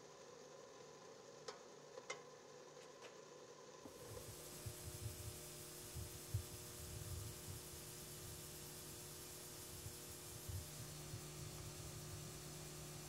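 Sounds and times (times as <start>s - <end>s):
faint hum and hiss: 0.0s - 13.0s.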